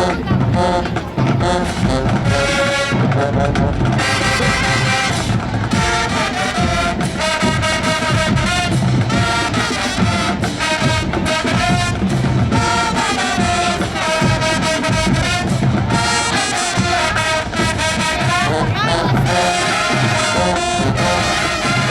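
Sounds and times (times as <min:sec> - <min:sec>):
brass horns melody: 0:00.0 - 0:21.9
marching drums: 0:00.0 - 0:21.9.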